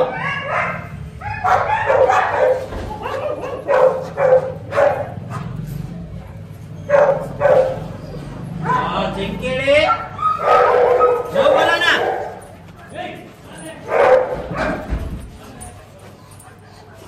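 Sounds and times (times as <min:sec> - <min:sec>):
dogs barking: 0:00.0 - 0:12.7, 0:13.6 - 0:15.2.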